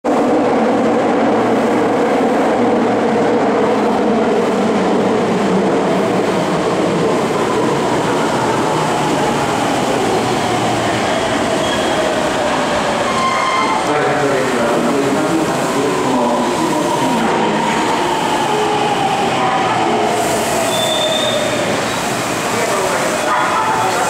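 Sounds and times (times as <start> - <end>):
train rumbling in station: 0.0 - 24.0.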